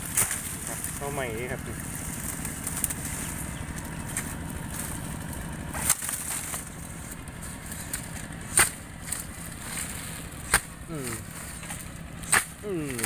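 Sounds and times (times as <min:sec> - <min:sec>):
bamboo leaves and twigs crackling: 0:00.0 - 0:13.0
steady low rumble: 0:00.0 - 0:13.0.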